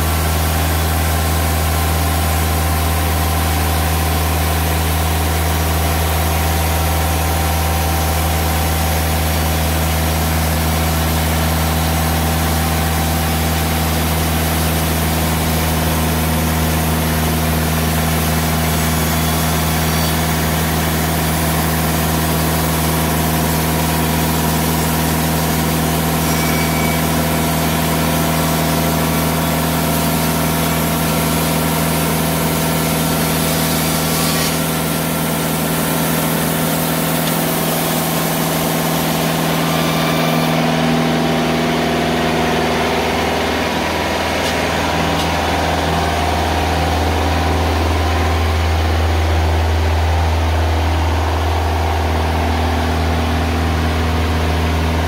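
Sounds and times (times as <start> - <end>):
band saw cutting wood: 0.0 - 47.6
band sawmill engine humming: 0.0 - 55.0.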